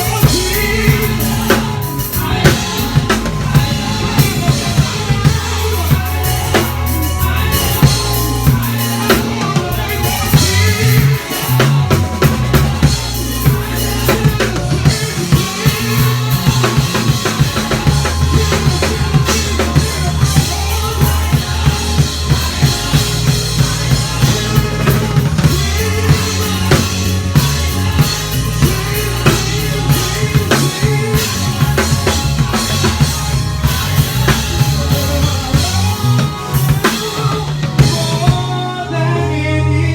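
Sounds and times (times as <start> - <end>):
drum kit with rimshots: 0.0 - 39.3
electric bass: 0.0 - 39.9
keyboard chords: 0.0 - 39.9.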